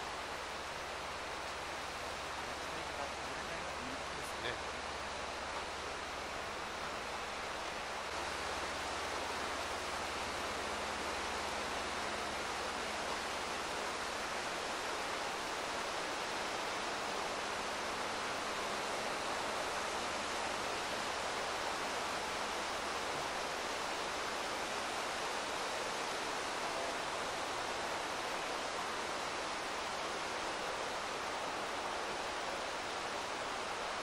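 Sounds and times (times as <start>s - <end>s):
river rushing over rocks: 0.0s - 34.0s.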